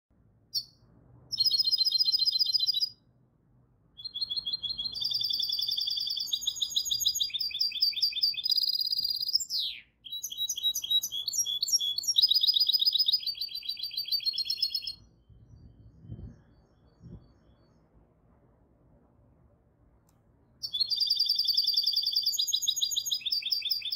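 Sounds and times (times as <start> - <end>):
bird singing trills: 0.5 - 3.0, 4.0 - 17.9, 20.6 - 23.9.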